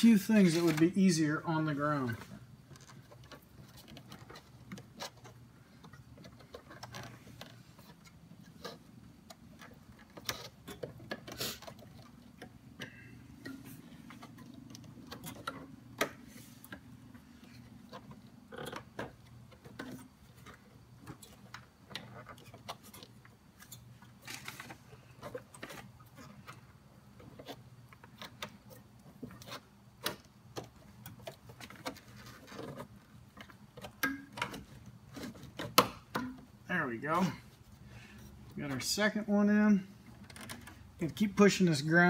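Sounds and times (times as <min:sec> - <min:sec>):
small clicks taps and rustles: 0:02.1 - 0:36.5.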